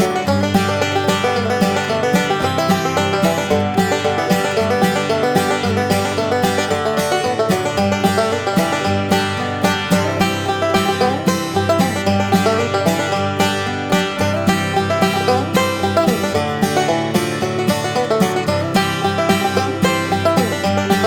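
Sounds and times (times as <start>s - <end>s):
up-tempo bluegrass banjo music: 0.0s - 21.0s.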